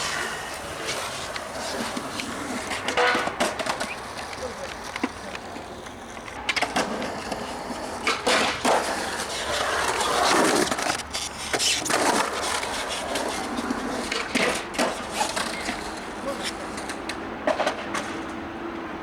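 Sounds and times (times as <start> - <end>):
skateboard clacks and knocks: 0.0 - 18.5
skateboard wheels rolling: 0.0 - 19.0.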